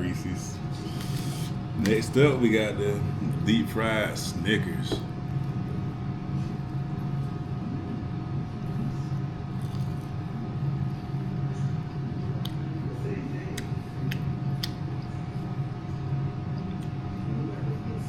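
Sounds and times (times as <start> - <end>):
faint constant whine: 0.0 - 18.0
low mechanical hum: 0.0 - 18.0.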